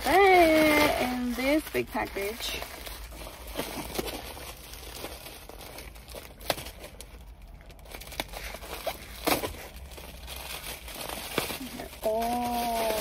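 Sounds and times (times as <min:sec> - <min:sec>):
plastic packaging crinkling and tearing: 0:00.0 - 0:13.0.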